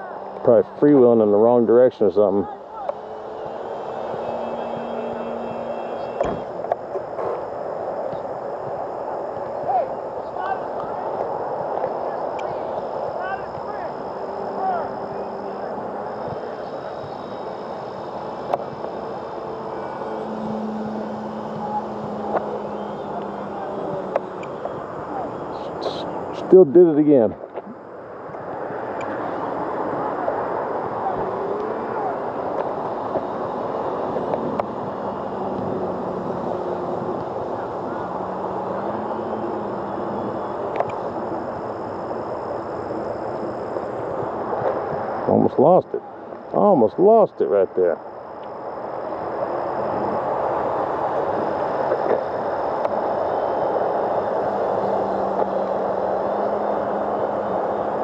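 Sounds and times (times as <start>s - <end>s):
model airplane motor humming: 0.0s - 9.5s, 10.5s - 26.5s, 27.8s - 45.2s, 48.8s - 58.0s
outdoor background noise: 0.0s - 58.0s.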